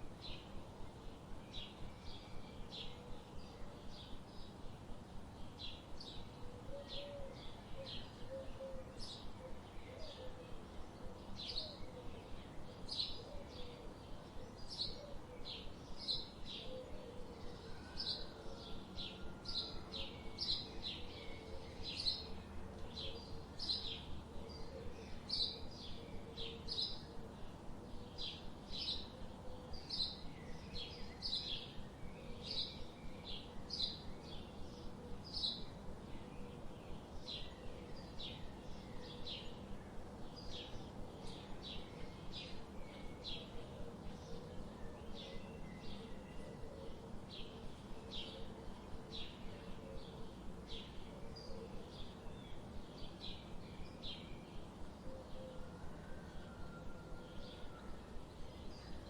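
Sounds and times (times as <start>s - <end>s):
forest ambience: 0.0s - 59.0s
bird chirping: 5.4s - 59.0s.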